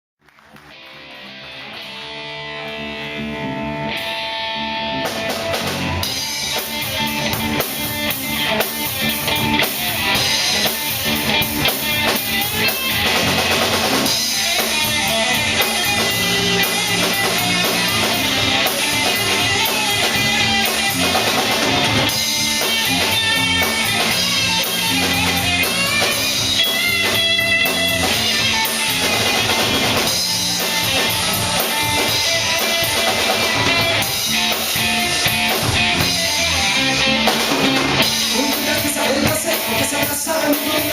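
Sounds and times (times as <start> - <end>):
bass guitar: 0.2 - 40.9
electric guitar playing: 0.3 - 40.9
drum kit: 0.6 - 40.9.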